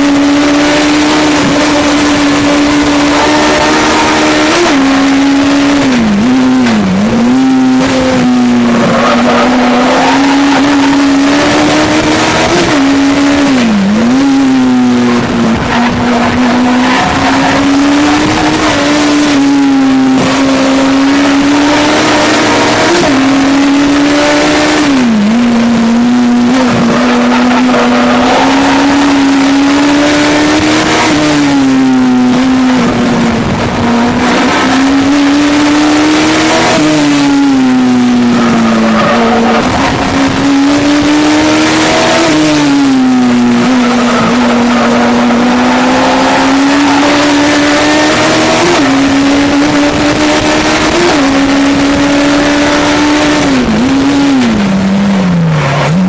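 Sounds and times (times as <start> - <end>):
engine rev blips: 0.0 - 56.0
motorcycle engine revving at racing speed: 0.0 - 56.0.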